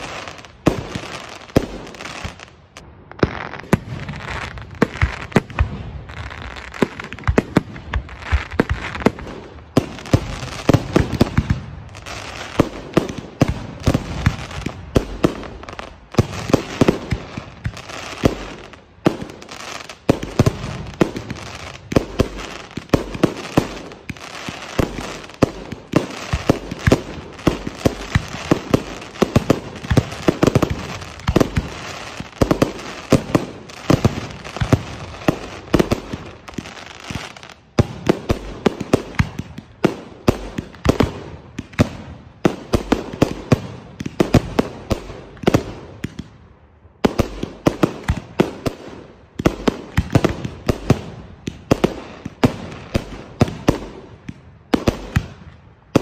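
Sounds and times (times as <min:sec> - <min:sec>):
fireworks bursting: 0:00.0 - 0:56.0
fireworks crackling: 0:00.0 - 0:56.0.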